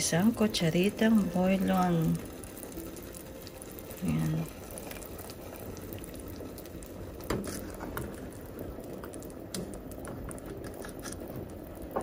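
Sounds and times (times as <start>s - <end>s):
pot simmering: 0.0s - 12.0s.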